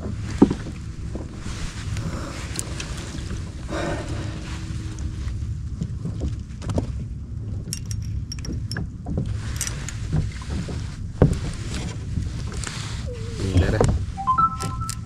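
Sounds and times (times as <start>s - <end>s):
wind and water on hull: 0.0s - 15.0s.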